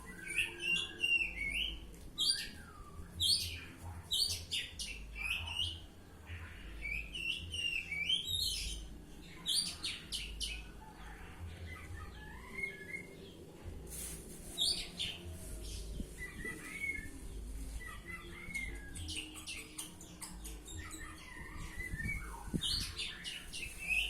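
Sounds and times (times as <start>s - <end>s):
bird singing chirps and trills: 0.0s - 10.8s, 14.6s - 24.0s.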